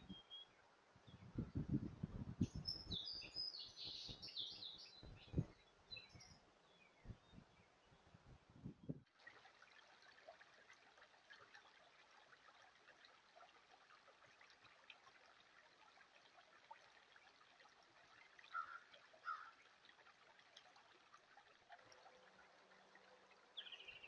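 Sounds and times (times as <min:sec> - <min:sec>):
creek trickling: 0:00.0 - 0:08.2, 0:08.8 - 0:24.0.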